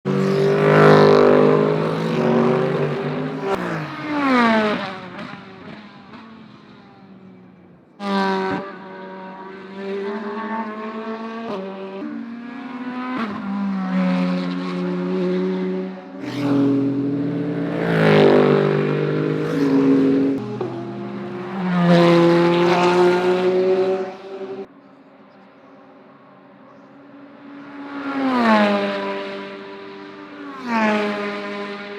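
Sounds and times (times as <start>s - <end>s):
race cars passing by: 0.1s - 31.9s.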